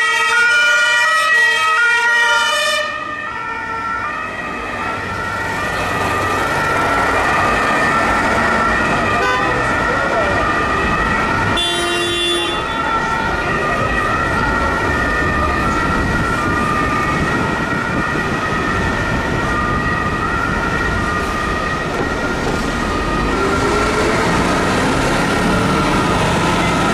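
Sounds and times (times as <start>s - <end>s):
traffic engines rumbling: 0.0s - 26.9s
two-tone emergency siren: 0.0s - 26.9s.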